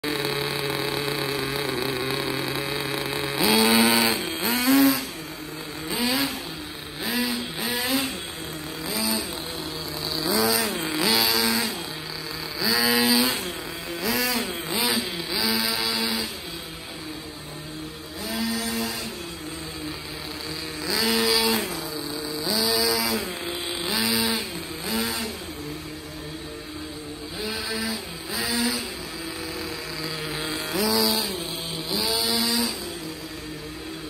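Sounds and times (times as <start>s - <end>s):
toy car motor revving: 0.0s - 34.0s.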